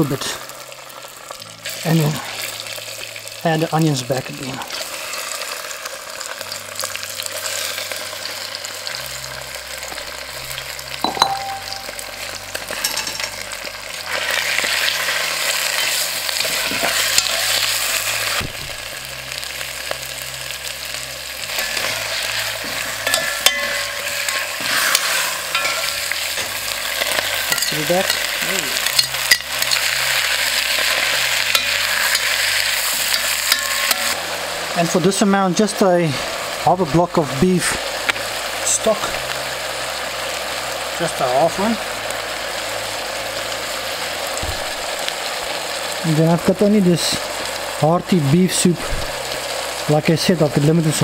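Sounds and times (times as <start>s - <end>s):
meat sizzling in a pot: 0.0s - 51.0s.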